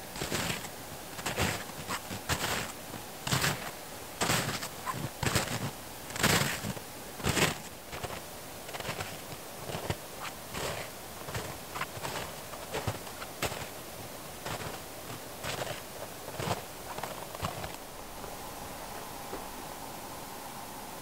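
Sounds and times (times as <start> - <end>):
footsteps crunching in snow: 0.1 - 19.6.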